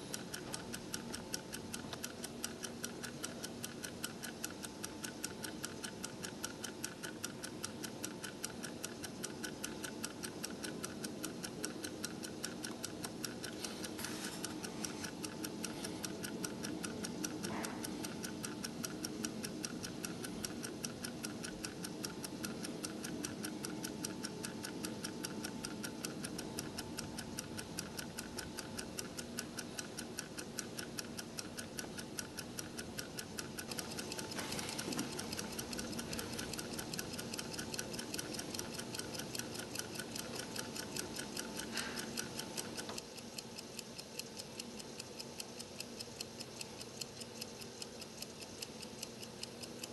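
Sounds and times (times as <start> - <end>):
stopwatch ticking rapidly: 0.0 - 49.9.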